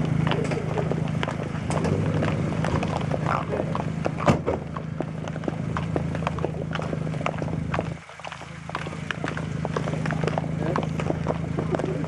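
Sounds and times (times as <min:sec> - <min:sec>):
high heels clicking on asphalt: 0:00.0 - 0:12.0
steady low hum: 0:00.0 - 0:12.0.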